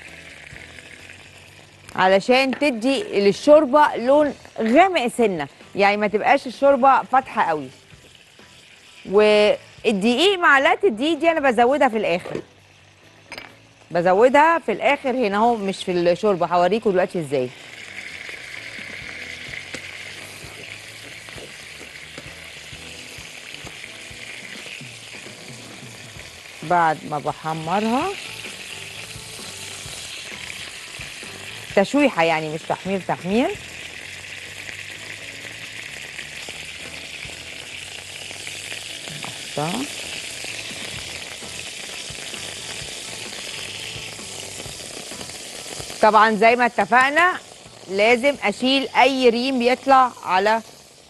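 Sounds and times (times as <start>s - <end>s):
meat sizzling in frying pan: 0.0s - 51.0s.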